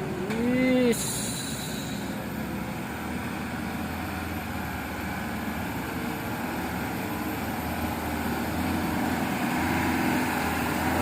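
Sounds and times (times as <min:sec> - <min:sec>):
diesel truck engine driving past: 0:00.0 - 0:11.0.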